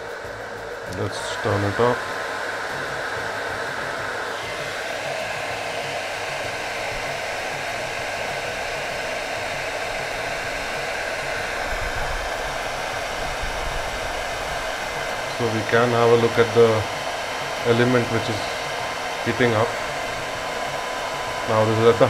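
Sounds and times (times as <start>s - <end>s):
hair dryer blowing air: 0.0s - 22.0s.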